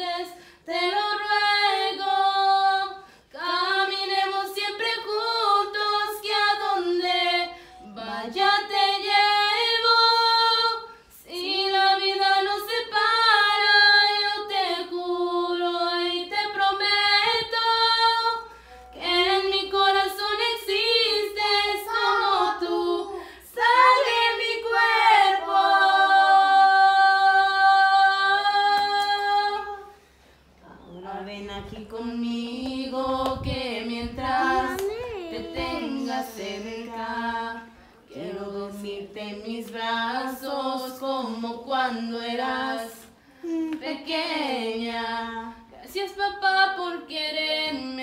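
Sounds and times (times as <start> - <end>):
woman singing unaccompanied: 0.0 - 30.0, 30.6 - 48.0.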